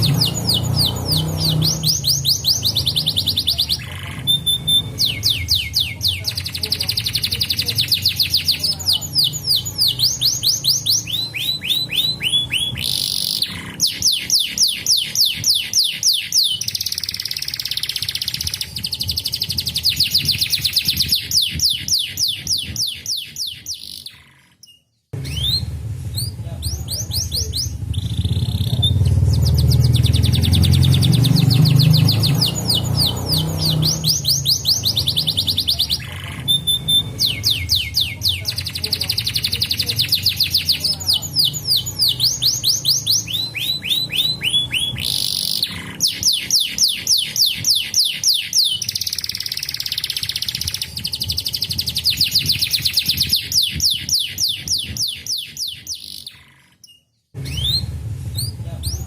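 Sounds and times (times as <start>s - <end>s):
canary singing in trills: 0.0s - 59.0s.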